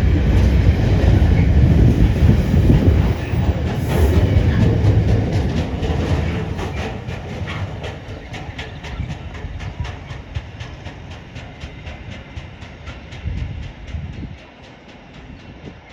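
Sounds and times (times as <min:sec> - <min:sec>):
low rumble of rolling wagons: 0:00.0 - 0:15.8
train wheels clicking over rail joints: 0:00.0 - 0:15.9.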